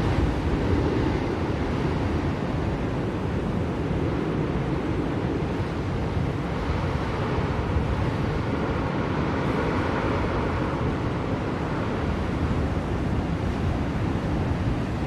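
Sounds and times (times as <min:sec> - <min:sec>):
blizzard wind blowing: 0:00.0 - 0:15.0.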